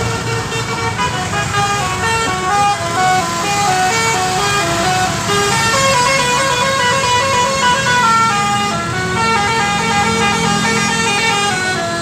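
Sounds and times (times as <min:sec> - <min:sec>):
multi-tone bus horn tune: 0:00.0 - 0:12.0.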